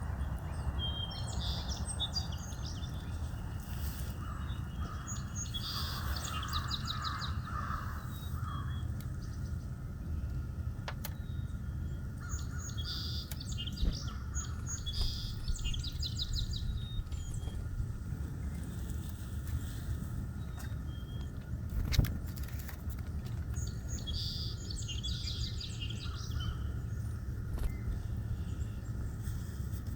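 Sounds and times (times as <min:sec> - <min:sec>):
songbirds chirping and trilling: 0:00.0 - 0:29.9
steady low rumble: 0:00.0 - 0:29.9.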